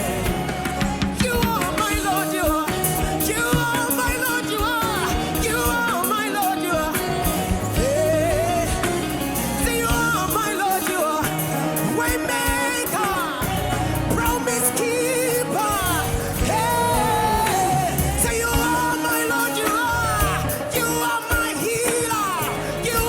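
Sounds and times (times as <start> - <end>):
band with drums and bass: 0.0 - 23.0.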